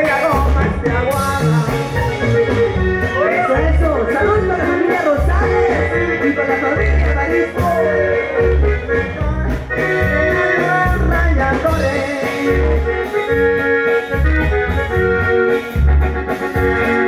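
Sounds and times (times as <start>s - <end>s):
band playing melody: 0.0s - 17.0s
pulsing bass line: 0.0s - 17.0s.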